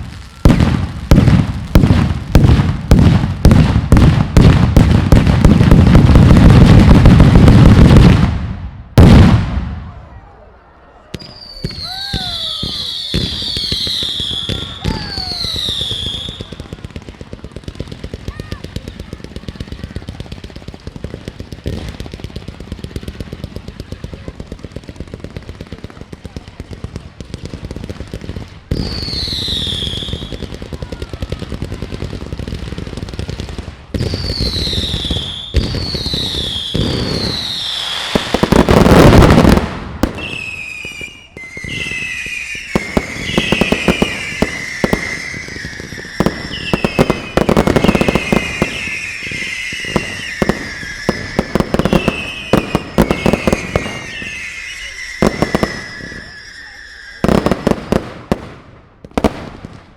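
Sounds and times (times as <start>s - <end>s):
fireworks popping and crackling: 0.0s - 10.0s, 11.1s - 59.9s
fireworks explosions: 0.0s - 59.9s
whistling fireworks: 0.0s - 59.9s.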